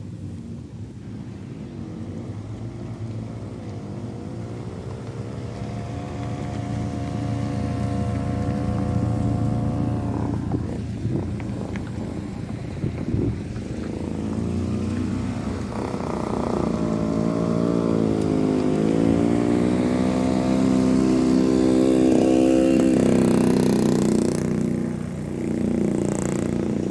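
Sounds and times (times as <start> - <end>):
vehicle engine under load: 0.0 - 26.9.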